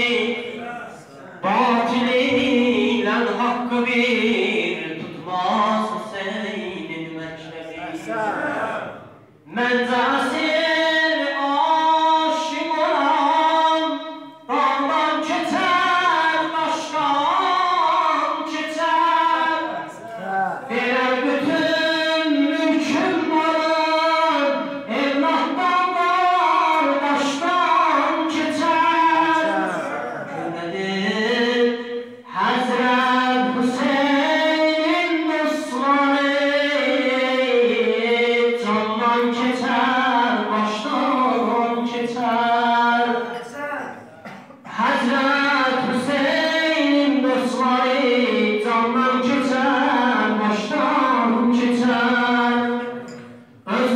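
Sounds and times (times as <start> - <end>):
man singing unaccompanied: 0.0 - 8.1, 9.4 - 43.5, 44.6 - 53.9.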